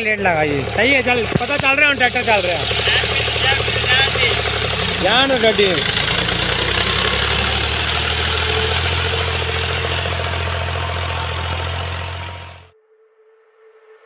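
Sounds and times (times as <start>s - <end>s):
tractor engine running: 0.0s - 12.7s.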